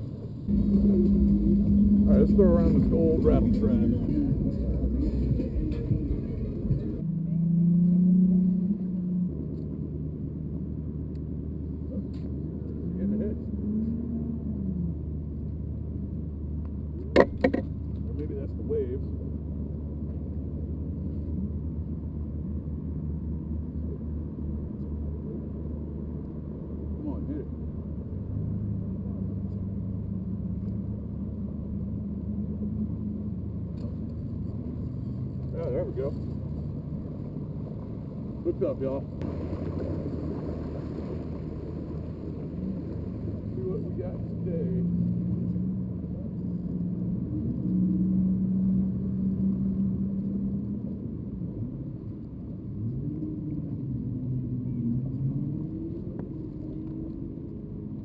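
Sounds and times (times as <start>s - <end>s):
engine rumble: 0.0s - 58.0s.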